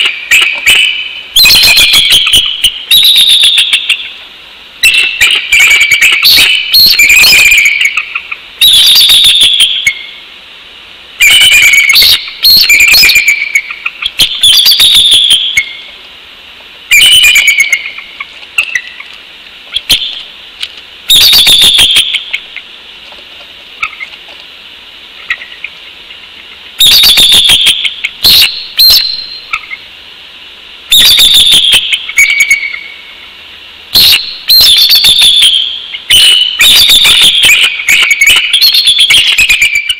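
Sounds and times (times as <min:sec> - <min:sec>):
eagle piping chatter: 0:00.0 - 0:04.2, 0:04.8 - 0:10.2, 0:11.2 - 0:16.0, 0:16.9 - 0:20.4, 0:21.0 - 0:22.8, 0:23.4 - 0:24.4, 0:25.1 - 0:29.9, 0:30.9 - 0:33.3, 0:33.9 - 0:39.9.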